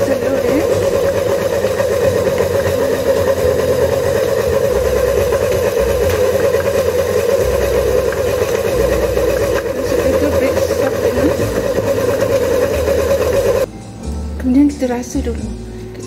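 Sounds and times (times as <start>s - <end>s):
stand mixer kneading dough: 0.0s - 13.7s.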